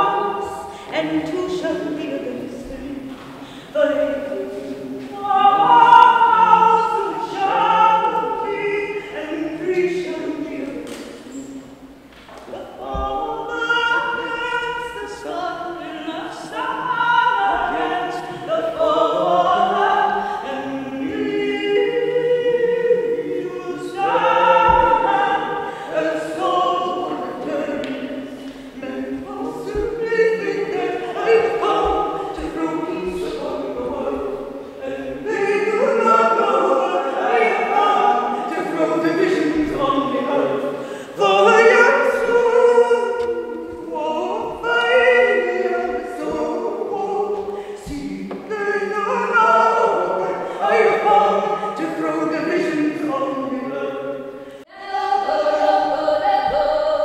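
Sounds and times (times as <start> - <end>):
voices singing a cappella: 0.0 - 57.0.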